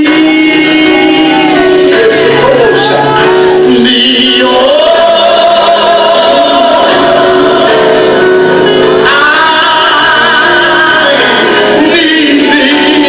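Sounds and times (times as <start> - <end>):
gospel singing with instruments: 0.0 - 13.0.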